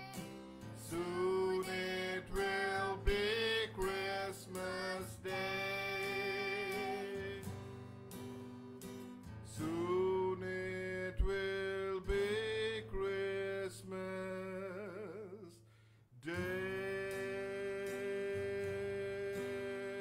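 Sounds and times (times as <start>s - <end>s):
person singing with vibrato: 0.0s - 7.7s, 9.5s - 15.6s, 16.2s - 20.0s
strummed acoustic guitar: 0.0s - 20.0s.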